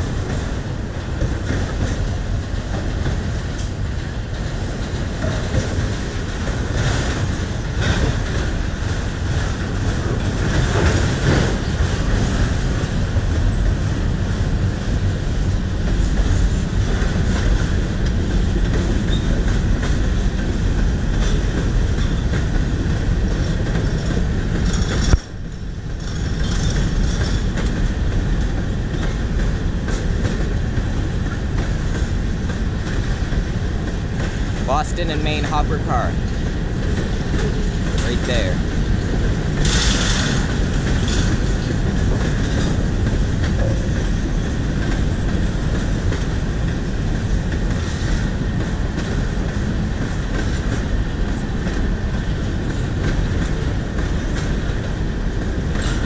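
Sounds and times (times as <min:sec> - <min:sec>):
wheels clicking over rail joints: 0:00.0 - 0:35.6, 0:36.2 - 0:56.0
freight train rolling past: 0:00.0 - 0:56.0.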